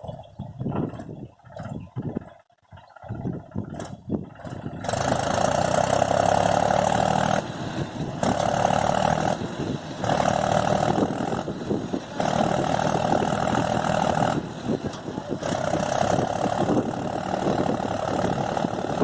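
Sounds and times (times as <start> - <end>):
tractor engine surging under load: 0.0 - 19.0.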